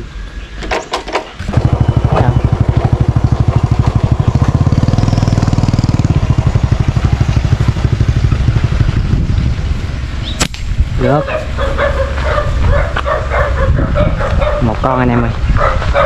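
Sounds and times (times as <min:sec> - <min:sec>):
motorbike engine puttering: 0:00.6 - 0:14.8.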